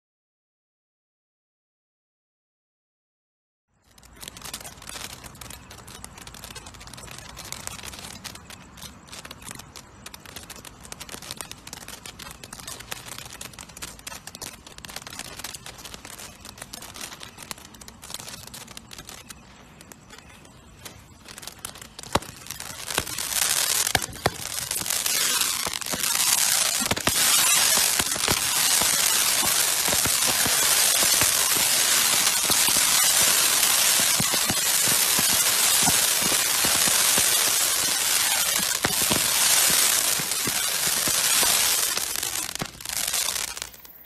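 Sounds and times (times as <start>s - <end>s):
firework fountain hissing crackling: 3.8s - 44.0s
firework pops: 3.9s - 44.0s.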